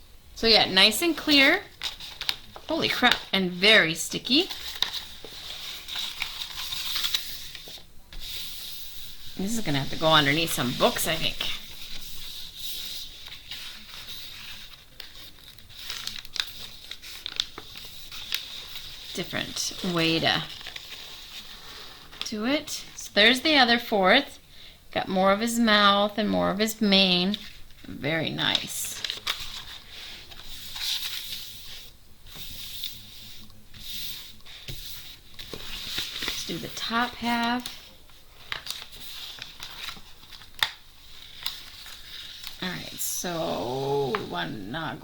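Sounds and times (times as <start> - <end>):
canvas and plastic paper rustling: 0.5 - 3.3, 4.3 - 22.3, 27.2 - 45.0.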